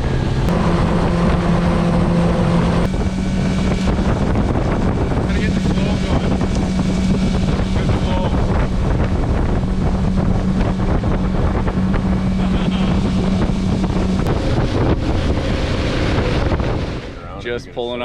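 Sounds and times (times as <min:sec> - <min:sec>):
motorboat engine running: 0:00.0 - 0:18.0
wind and water rushing: 0:00.0 - 0:18.0.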